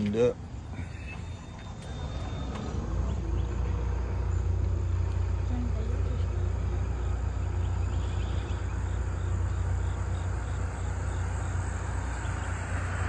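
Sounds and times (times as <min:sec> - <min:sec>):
insect chirping in pulses: 0:00.4 - 0:13.0.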